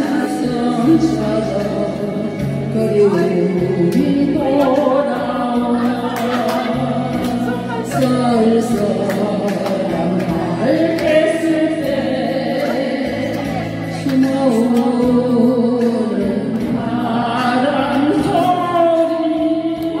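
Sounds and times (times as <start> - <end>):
instrumental backing track: 0.0 - 20.0
woman singing a pop ballad: 0.0 - 20.0.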